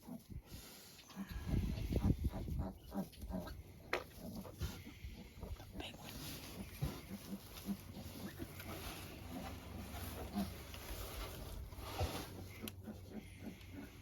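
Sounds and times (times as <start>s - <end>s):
pig grunting: 1.1s - 14.0s.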